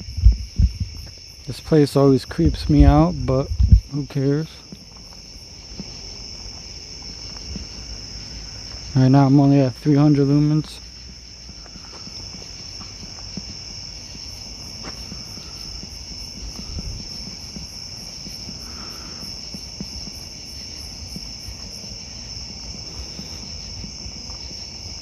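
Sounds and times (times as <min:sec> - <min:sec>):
crickets trilling: 0:00.0 - 0:25.0
pulsing insect chirp: 0:00.0 - 0:25.0.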